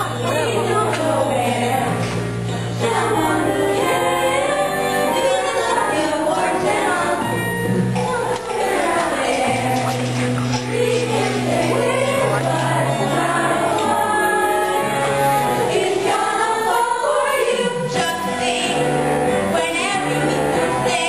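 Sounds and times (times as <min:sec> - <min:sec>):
instrumental accompaniment: 0:00.0 - 0:21.0.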